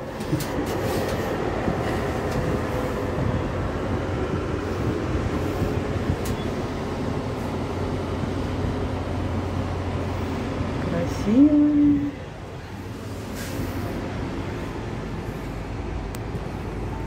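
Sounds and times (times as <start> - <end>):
cable car cabin rumble and hum: 0.0 - 17.0.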